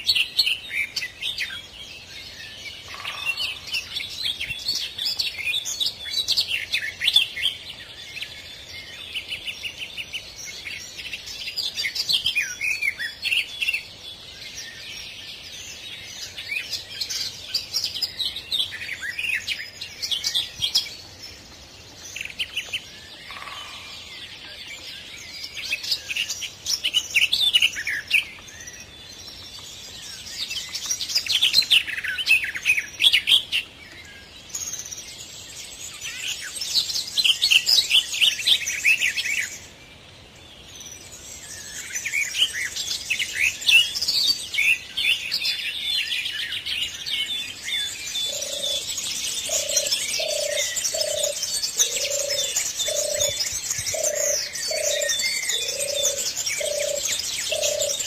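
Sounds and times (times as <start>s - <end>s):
faint steady background noise: 0.0s - 58.0s
songbirds chirping and warbling: 0.0s - 58.0s.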